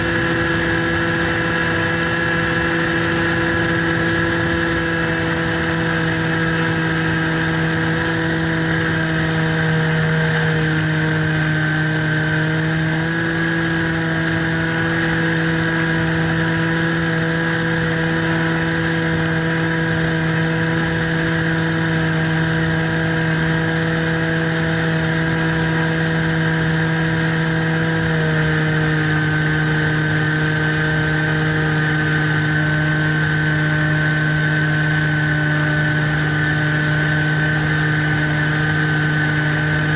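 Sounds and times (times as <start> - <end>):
model plane motor and propeller: 0.0 - 39.9.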